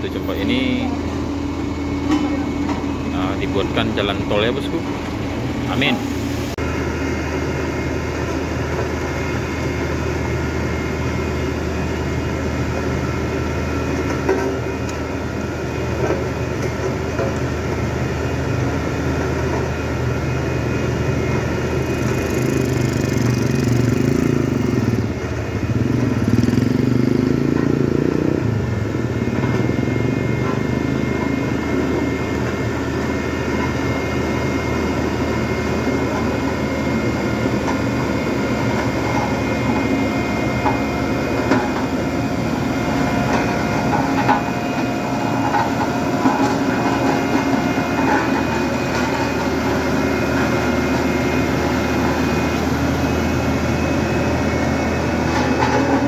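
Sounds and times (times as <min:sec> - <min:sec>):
vehicle engines running: 0:00.0 - 0:56.0.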